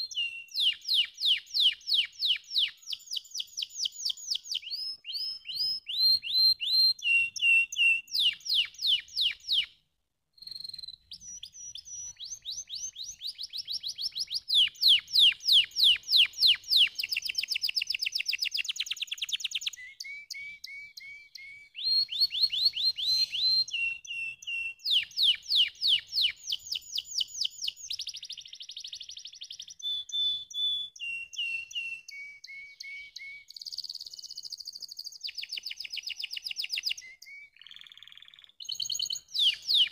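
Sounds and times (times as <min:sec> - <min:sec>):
canary singing trilled phrases: 0:00.0 - 0:09.8, 0:10.4 - 0:39.9.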